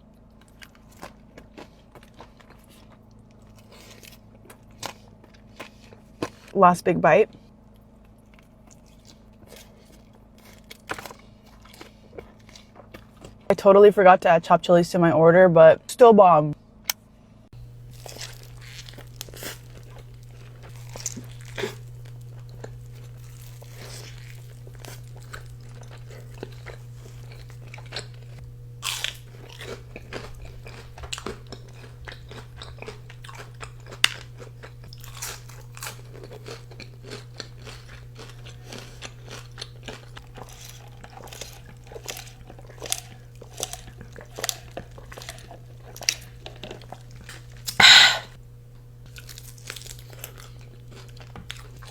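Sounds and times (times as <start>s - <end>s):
crunchy bites and chewing: 0.0s - 6.6s, 7.6s - 13.5s, 17.6s - 48.3s, 49.1s - 51.9s
steady low hum: 0.0s - 51.9s.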